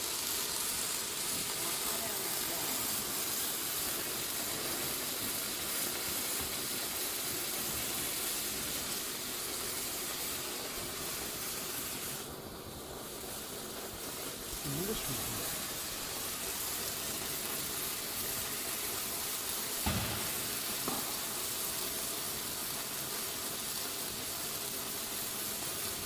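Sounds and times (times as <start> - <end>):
welding arc hissing: 0.0 - 26.0.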